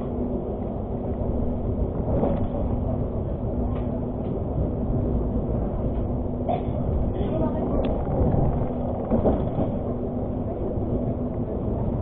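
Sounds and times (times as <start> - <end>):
train rumbling inside carriage: 0.0 - 12.0.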